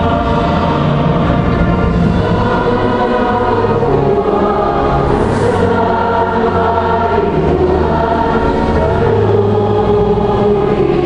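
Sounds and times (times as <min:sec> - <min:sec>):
choir singing a hymn: 0:00.0 - 0:11.0.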